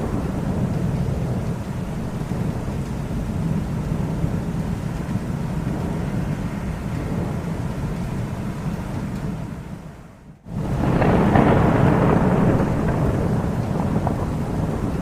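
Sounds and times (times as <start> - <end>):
rolling thunder rumble: 0.0 - 15.0.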